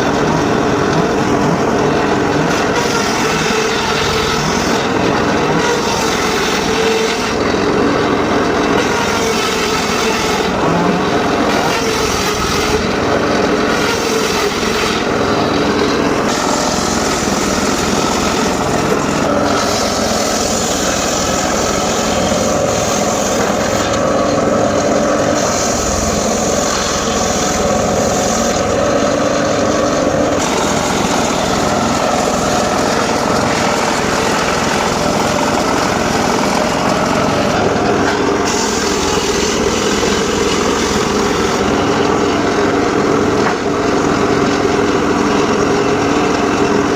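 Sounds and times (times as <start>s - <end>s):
circular saw motor drone: 0.0s - 46.9s
saw blade cutting wood: 0.0s - 46.9s.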